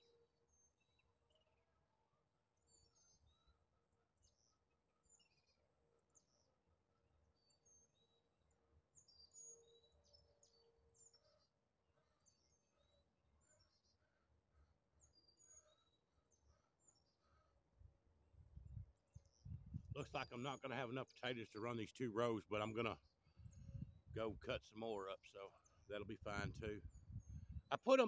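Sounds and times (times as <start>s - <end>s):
faint birds chirping: 0.0s - 28.0s.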